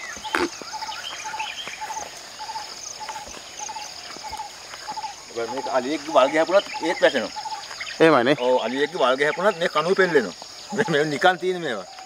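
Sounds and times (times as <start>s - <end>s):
bird chirps: 0.0s - 12.0s
insect drone: 0.0s - 12.0s.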